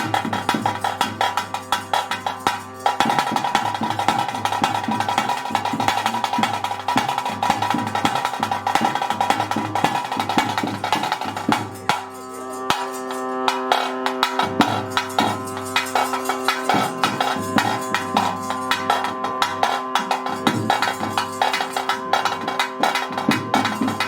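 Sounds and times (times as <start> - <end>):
fast dense drumming: 0.0 - 24.0.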